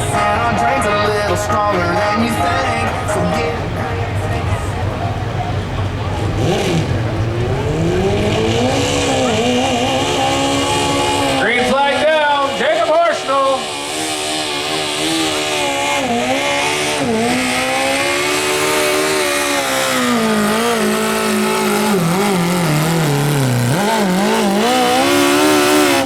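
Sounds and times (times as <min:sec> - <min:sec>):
lawn tractor engine at high revs: 0:00.0 - 0:26.0.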